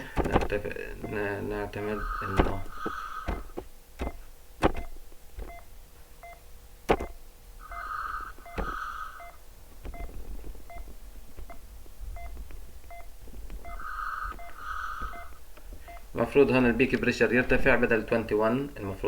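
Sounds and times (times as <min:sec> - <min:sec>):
ventilator alarm beeping: 0:00.0 - 0:16.8.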